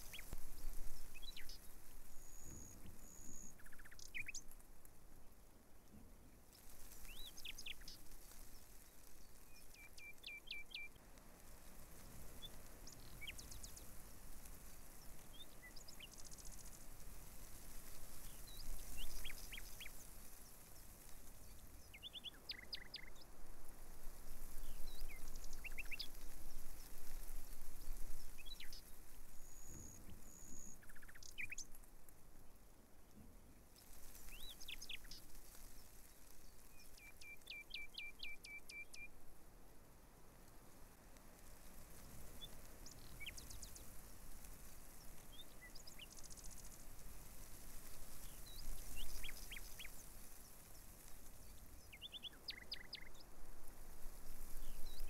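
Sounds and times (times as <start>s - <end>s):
small birds chirping: 0.0s - 4.7s, 5.9s - 32.0s, 33.2s - 39.2s, 41.3s - 55.0s
steady background hiss: 0.0s - 55.0s.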